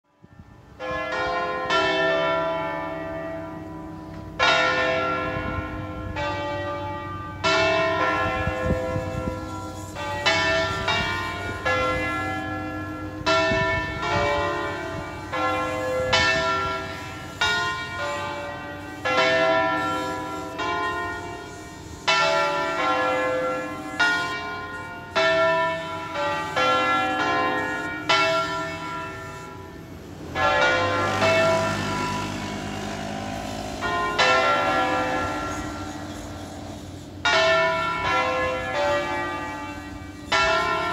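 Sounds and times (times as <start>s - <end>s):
church bells ringing: 0.1s - 40.9s.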